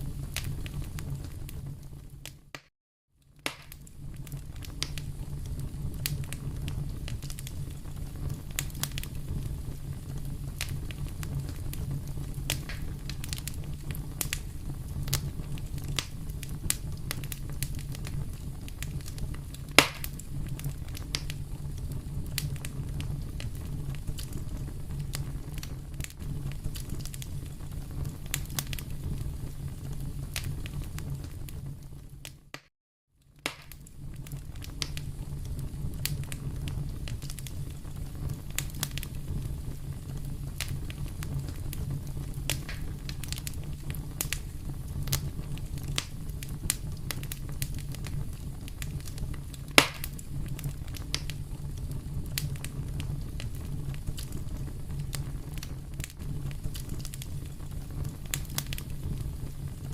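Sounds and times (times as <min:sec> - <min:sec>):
fire flames rumbling: 0:00.0 - 0:02.6, 0:03.3 - 0:32.6, 0:33.3 - 0:59.9
fire crackling and popping: 0:00.0 - 0:59.9.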